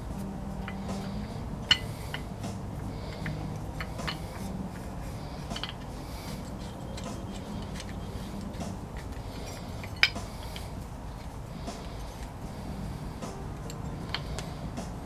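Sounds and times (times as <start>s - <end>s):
small metal parts clicking: 0.0s - 14.7s.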